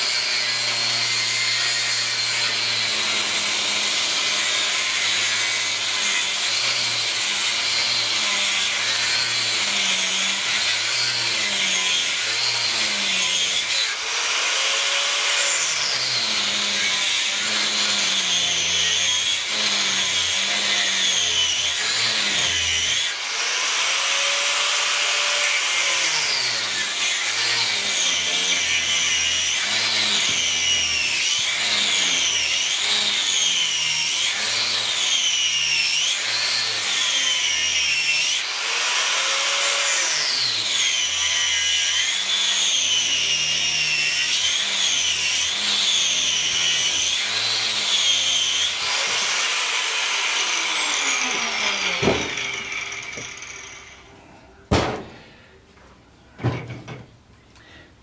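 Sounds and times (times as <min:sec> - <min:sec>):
angle grinder cutting metal: 0:00.0 - 0:54.4.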